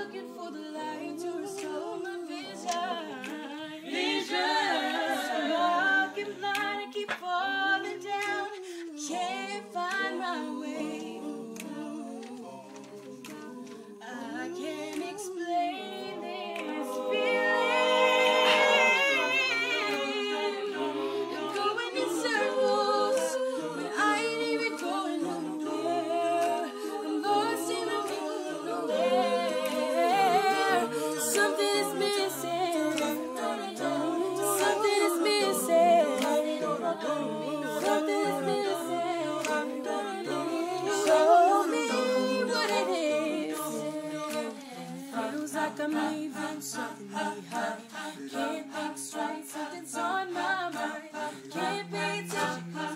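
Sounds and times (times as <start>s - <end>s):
a cappella group singing: 0.0s - 52.9s.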